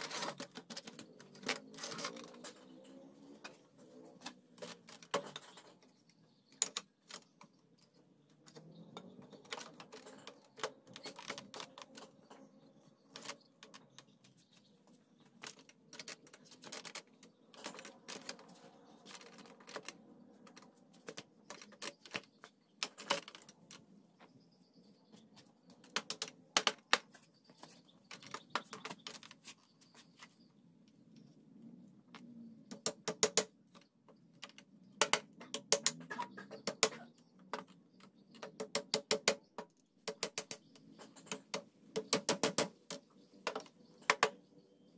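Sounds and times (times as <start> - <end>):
wooden pieces knocking and clicking: 0.0 - 24.4, 25.0 - 29.6, 32.1 - 44.6.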